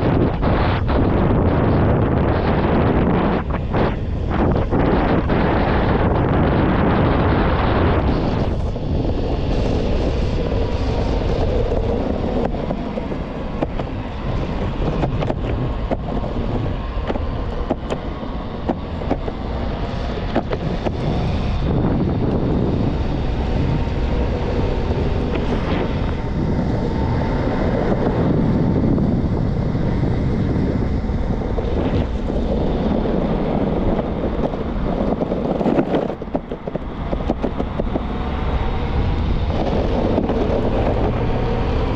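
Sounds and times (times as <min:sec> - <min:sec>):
skateboard rolling on pavement: 0:00.0 - 0:41.9
wind buffeting microphone: 0:00.0 - 0:41.9.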